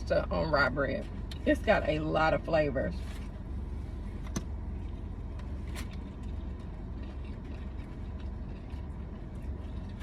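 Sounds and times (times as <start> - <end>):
motor vehicle rumble: 0.0 - 10.0.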